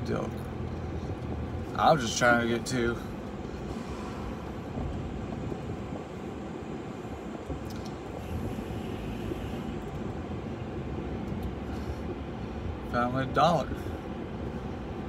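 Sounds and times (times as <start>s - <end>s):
car interior road and engine noise: 0.0s - 15.0s.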